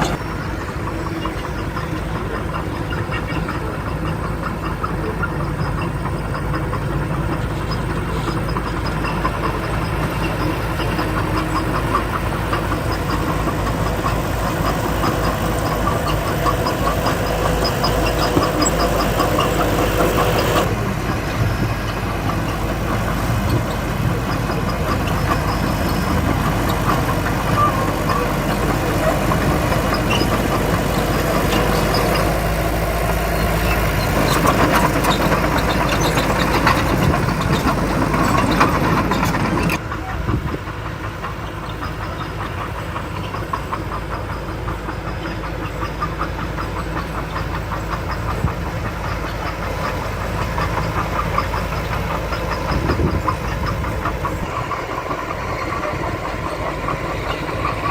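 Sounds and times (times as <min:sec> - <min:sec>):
heavy diesel machinery running: 0:00.0 - 0:57.9.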